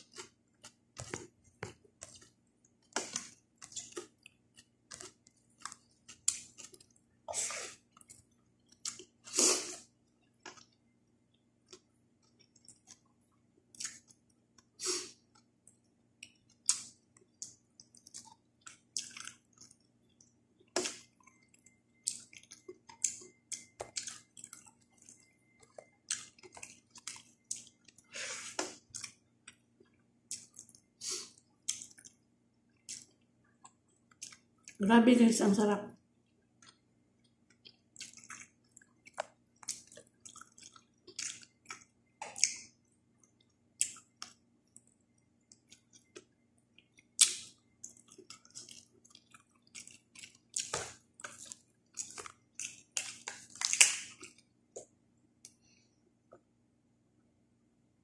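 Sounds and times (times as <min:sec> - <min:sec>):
wet bites and mouth clicks: 0:00.0 - 0:09.8, 0:13.7 - 0:29.6, 0:30.3 - 0:32.2, 0:32.8 - 0:34.8, 0:36.6 - 0:44.9, 0:45.5 - 0:54.9
person chewing and smacking: 0:00.0 - 0:34.8, 0:36.2 - 0:55.7.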